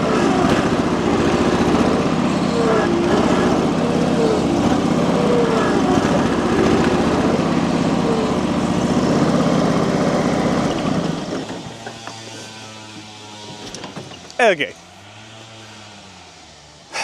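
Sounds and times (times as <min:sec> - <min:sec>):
garden tractor engine under load: 0:00.0 - 0:17.0.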